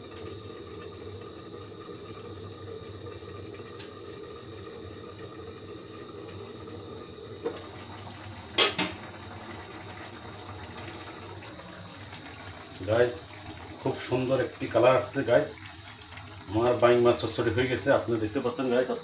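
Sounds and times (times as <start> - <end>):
food bubbling in a pan: 0.0 - 19.0.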